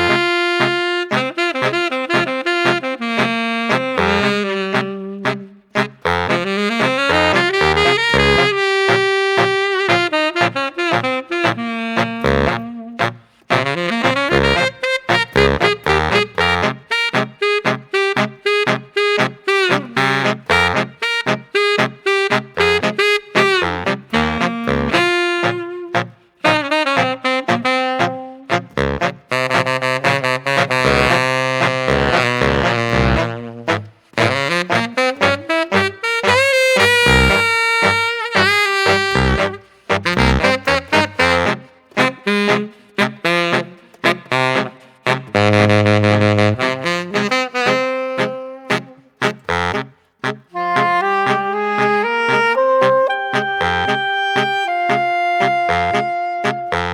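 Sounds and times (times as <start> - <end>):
jazz music with saxophone and brass: 0.0 - 56.9.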